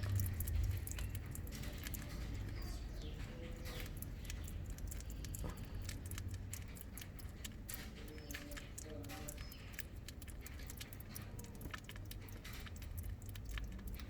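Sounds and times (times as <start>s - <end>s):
hedgehog chewing crunchy clicks: 0.0s - 14.0s
low steady hum: 0.0s - 14.0s.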